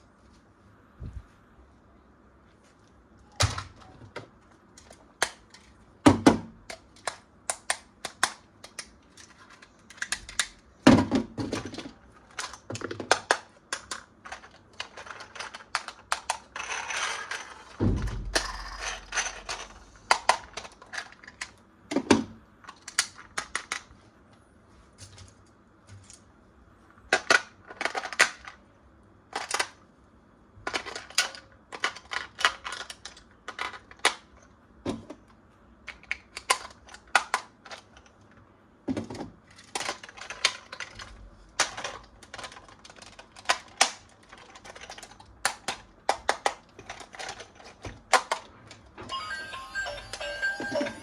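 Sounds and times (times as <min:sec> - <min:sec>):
plastic toy parts and packaging clicking: 0:03.2 - 0:24.0, 0:27.1 - 0:28.6, 0:29.3 - 0:29.8, 0:30.6 - 0:49.0.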